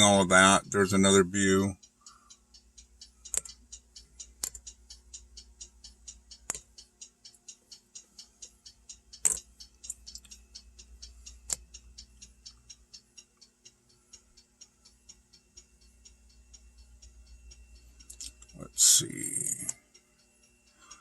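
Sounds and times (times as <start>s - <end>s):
faint steady hum: 0.0s - 21.0s
fast even ticking: 0.0s - 21.0s.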